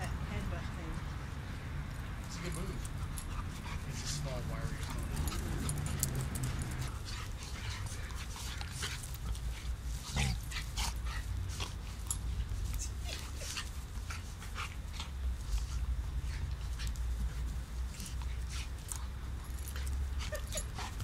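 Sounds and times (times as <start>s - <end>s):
dogs play-wrestling clicks and snaps: 1.8s - 21.0s.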